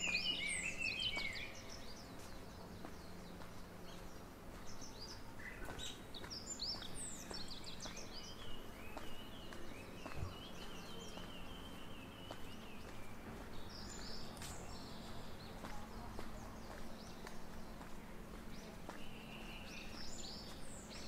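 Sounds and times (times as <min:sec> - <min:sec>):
faint footsteps: 0:00.0 - 0:21.0
songbirds singing and chirping: 0:00.0 - 0:21.0.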